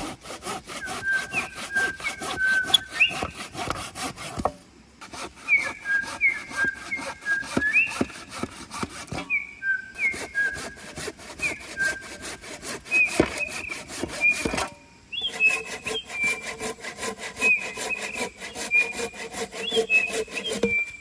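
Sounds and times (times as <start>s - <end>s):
hand saw rasping through wood: 0.0s - 9.4s, 10.0s - 21.0s
high whistling chirps: 0.8s - 3.4s, 5.4s - 8.3s, 9.1s - 21.0s.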